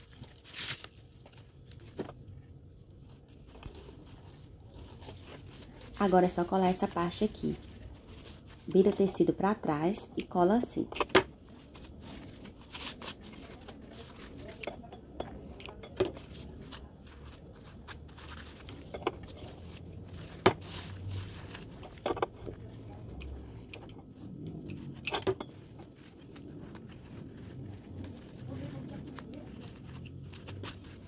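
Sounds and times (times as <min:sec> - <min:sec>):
cardboard and cloth rustling: 0:00.0 - 0:31.0.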